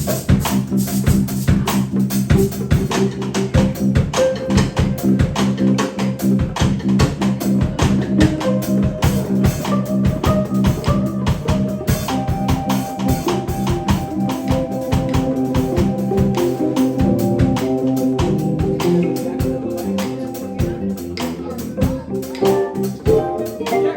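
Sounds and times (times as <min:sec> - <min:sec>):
drum kit beat: 0:00.0 - 0:23.9
guitar: 0:00.0 - 0:23.9
held notes: 0:00.0 - 0:23.9.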